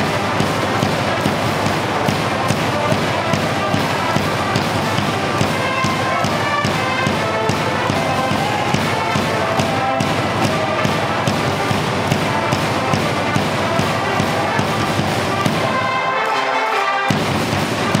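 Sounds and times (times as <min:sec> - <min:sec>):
large drum beating: 0:00.0 - 0:16.0, 0:17.1 - 0:18.0
orchestra playing march-like song: 0:00.0 - 0:18.0.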